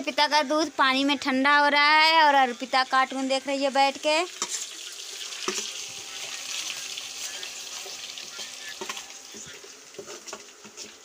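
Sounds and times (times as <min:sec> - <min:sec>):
oil sizzling with onion: 0:00.0 - 0:11.0.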